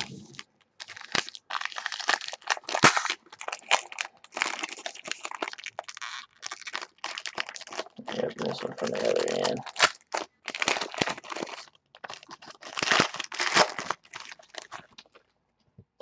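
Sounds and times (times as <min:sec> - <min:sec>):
foil wrapper crinkling: 0:00.0 - 0:15.3.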